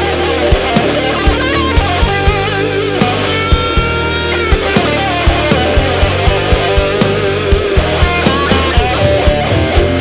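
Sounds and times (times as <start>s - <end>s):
distorted electric guitars: 0.0s - 10.0s
steady drum beat: 0.0s - 10.0s.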